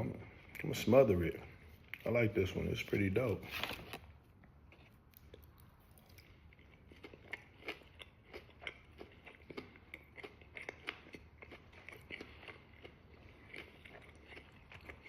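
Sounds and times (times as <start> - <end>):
chewing crunchy food: 0.2 - 15.0.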